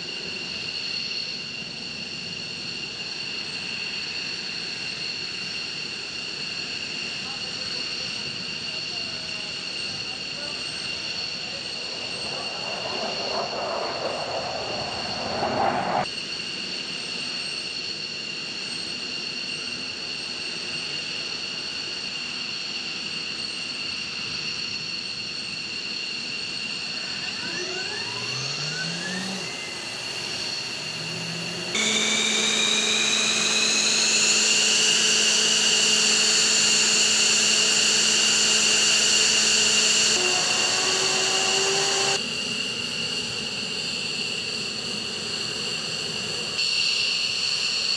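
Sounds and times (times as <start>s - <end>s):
jet turbines whining: 0.0s - 16.1s, 25.3s - 47.9s.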